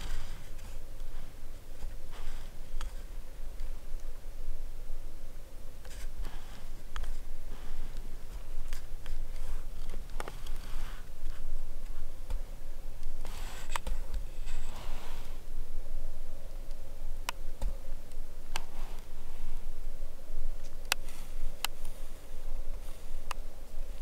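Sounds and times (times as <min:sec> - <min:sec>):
low microphone rumble: 0:00.0 - 0:24.0
rustling of dry brush: 0:00.0 - 0:24.0.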